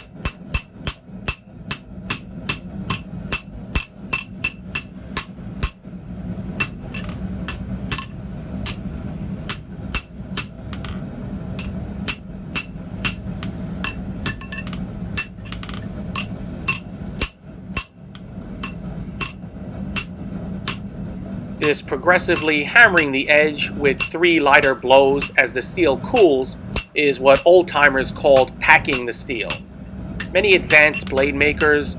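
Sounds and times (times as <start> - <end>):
hammer ringing on steel: 0.0 - 5.8, 6.6 - 8.8, 11.6 - 18.0, 18.6 - 20.1, 21.6 - 31.9
steady low hum: 0.0 - 31.9.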